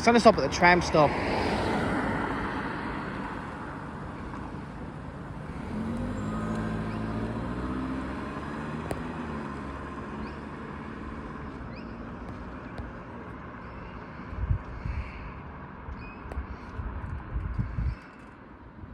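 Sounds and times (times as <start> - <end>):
passing road traffic: 0.0 - 18.9
vehicle humming drone: 0.0 - 18.9.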